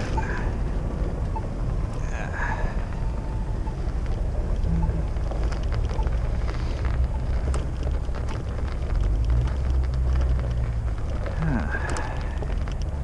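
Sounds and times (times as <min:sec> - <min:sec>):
crackles and clicks: 0:00.0 - 0:13.0.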